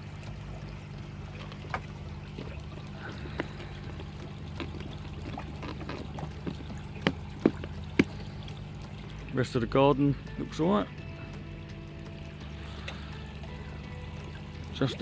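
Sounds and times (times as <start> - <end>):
low hum: 0.0 - 15.0
water pouring and trickling: 0.0 - 15.0.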